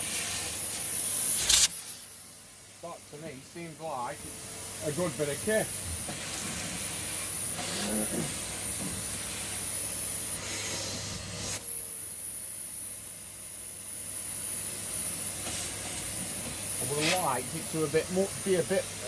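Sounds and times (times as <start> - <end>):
vacuum cleaner running: 0.0 - 2.1, 2.8 - 19.0.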